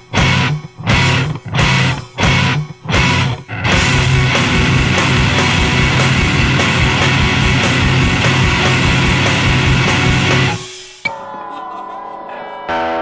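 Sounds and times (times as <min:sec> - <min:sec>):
drums: 0:00.0 - 0:11.2
electric guitar: 0:00.0 - 0:11.2.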